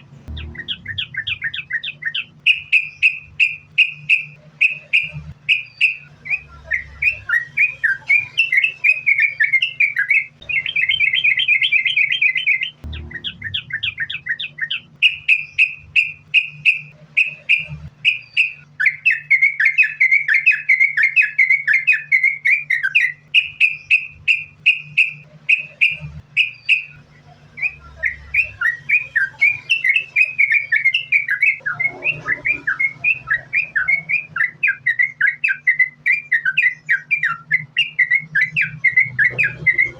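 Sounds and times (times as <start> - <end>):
bird chirping and warbling: 0.0 - 39.9
faint low hum: 0.0 - 39.9.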